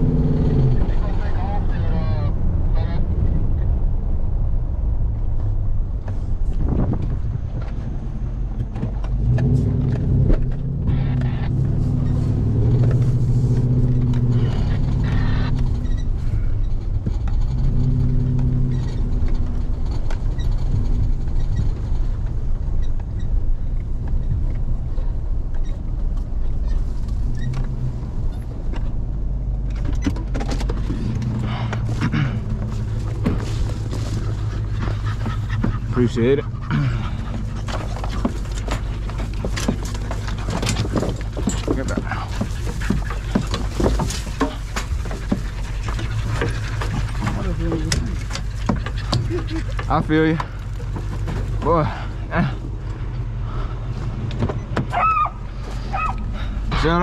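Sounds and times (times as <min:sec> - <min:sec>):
truck engine hum: 0:00.0 - 0:57.0
tyre rumble on dirt road: 0:00.0 - 0:57.0.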